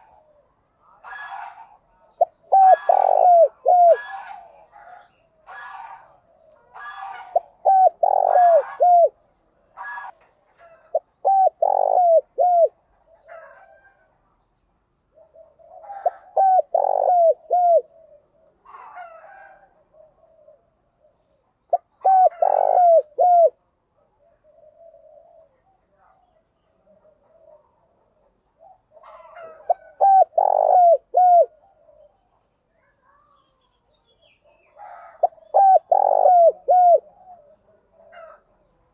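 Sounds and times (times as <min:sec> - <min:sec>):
dove cooing: 0:00.0 - 0:09.2, 0:09.8 - 0:14.1, 0:15.1 - 0:25.8, 0:26.8 - 0:32.4, 0:34.5 - 0:38.7
soft rough bird calls: 0:00.0 - 0:38.9.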